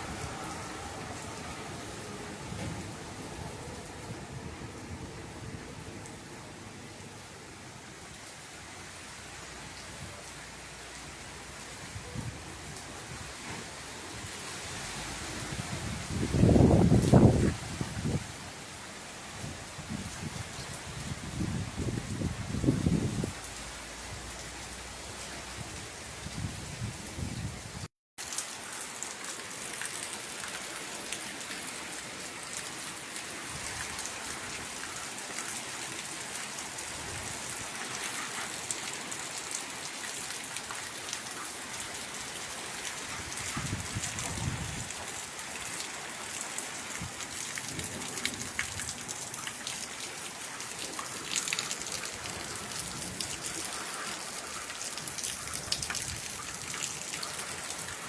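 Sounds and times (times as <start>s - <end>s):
rain drops pattering: 0.0s - 58.0s.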